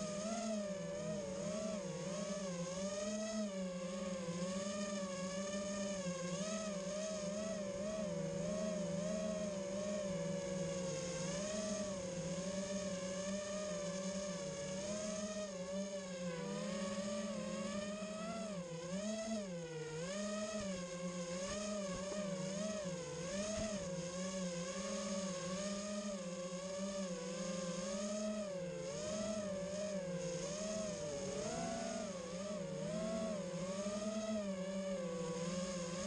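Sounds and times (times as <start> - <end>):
quadcopter motors whining: 0.0 - 36.0.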